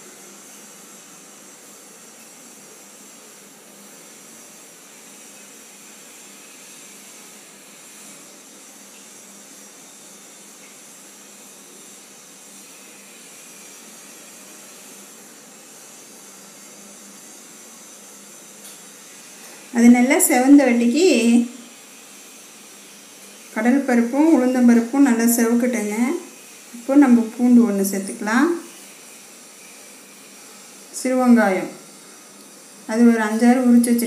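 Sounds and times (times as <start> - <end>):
lentils sizzling in hot oil: 0.0 - 34.0.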